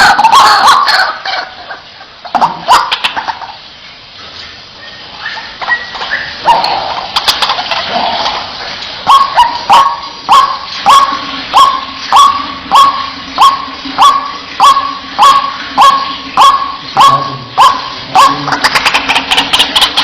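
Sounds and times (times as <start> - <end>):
waterhen croaking calls: 0.0 - 3.8, 4.7 - 20.0.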